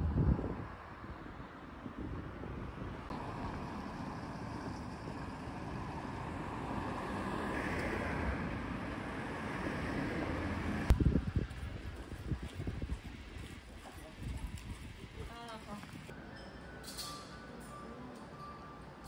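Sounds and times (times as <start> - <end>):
vehicle road noise rumble: 0.0 - 16.2.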